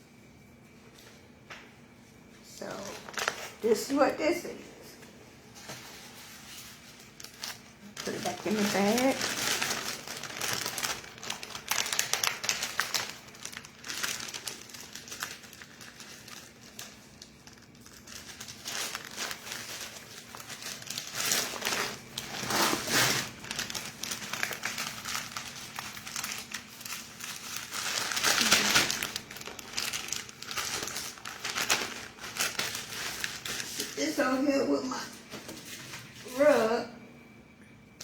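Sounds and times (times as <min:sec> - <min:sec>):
plastic bag crinkling: 0:02.6 - 0:04.3, 0:05.5 - 0:36.7.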